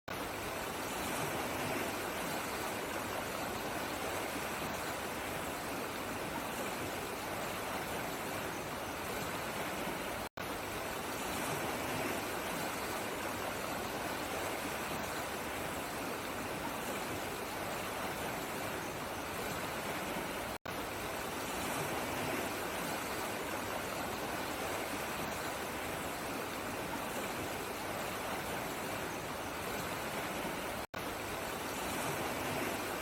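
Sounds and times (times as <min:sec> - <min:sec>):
running water rushing: 0:00.1 - 0:33.0.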